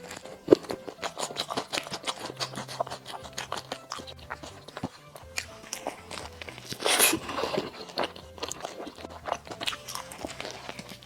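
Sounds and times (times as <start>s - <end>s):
sharp bite: 0.0s - 11.0s
wet chewing mouth clicks: 0.0s - 11.0s.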